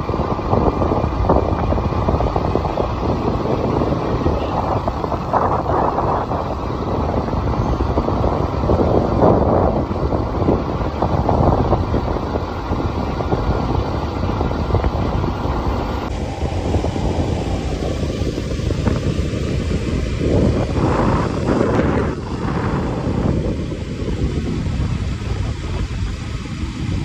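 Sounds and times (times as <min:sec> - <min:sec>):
vehicle rumble on road: 0:00.0 - 0:27.0
wind buffeting microphone: 0:00.0 - 0:27.0.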